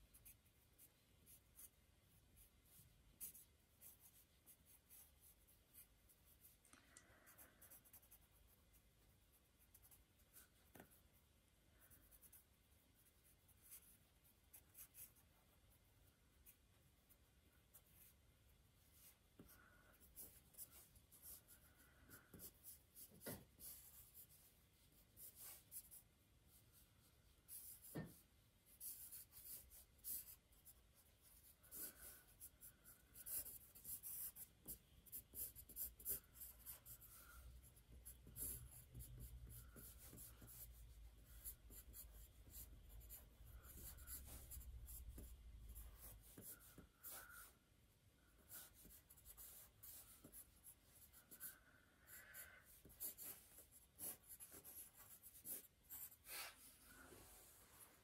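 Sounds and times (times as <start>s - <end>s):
pen scratching on paper: 0.0s - 1.8s, 2.4s - 6.6s, 7.3s - 11.2s, 11.8s - 15.8s, 18.9s - 26.1s, 27.4s - 47.6s, 48.3s - 56.8s.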